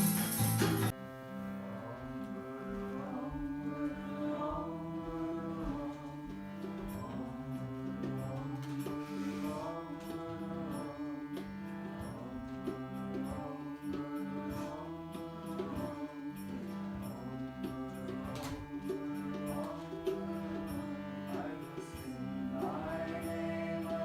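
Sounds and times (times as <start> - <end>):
light steady percussion: 0.0 - 1.0, 3.3 - 24.0
devotional chant music: 0.0 - 24.0
sustained drone notes: 0.0 - 24.0.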